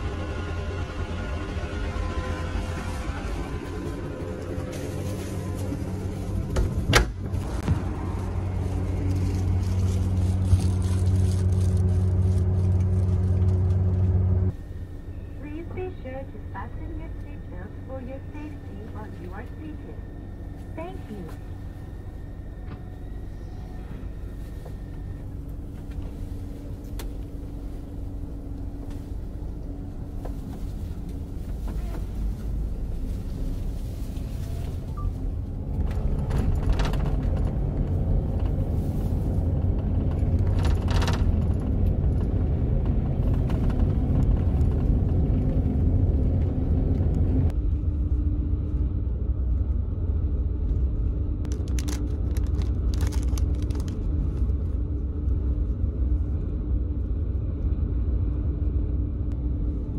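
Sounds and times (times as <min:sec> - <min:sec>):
bus cabin engine and road rumble: 0:00.0 - 0:59.9.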